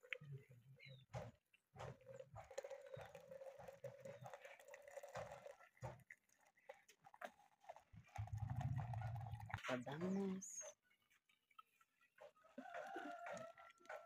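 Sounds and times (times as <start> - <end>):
tea trickling into a jug: 1.5 - 14.0.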